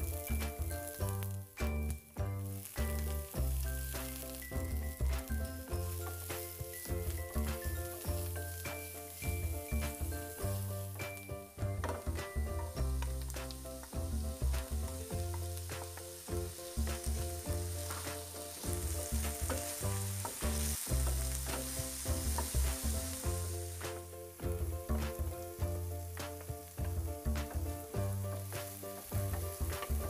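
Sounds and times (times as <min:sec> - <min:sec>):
background music with bass line: 0:00.0 - 0:30.0
food sizzling in a frying pan: 0:00.0 - 0:30.0.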